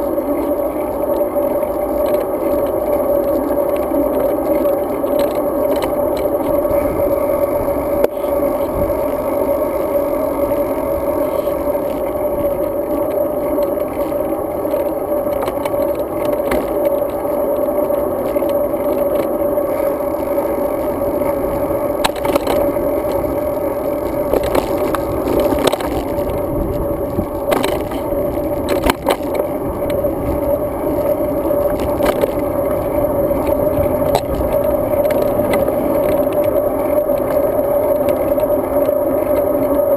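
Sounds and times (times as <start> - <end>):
bicycle tyre rumble: 0.0 - 39.9
bike clicks and rattles: 0.0 - 39.9
wind: 0.0 - 39.9.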